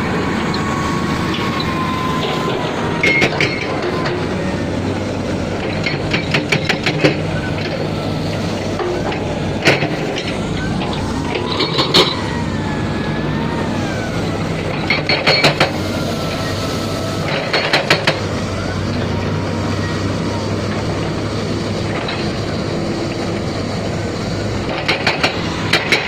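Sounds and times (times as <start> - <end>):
heavy machinery engine running: 0.0 - 26.0.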